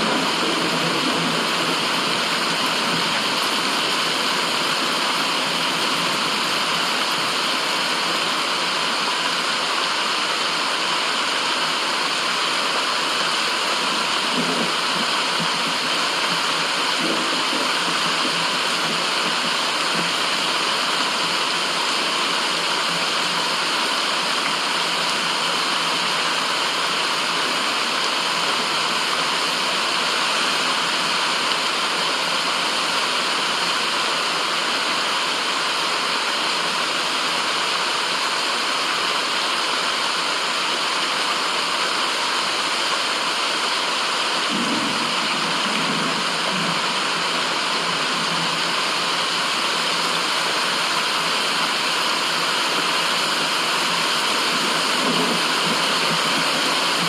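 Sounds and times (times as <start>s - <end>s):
rushing running water: 0.0s - 57.0s.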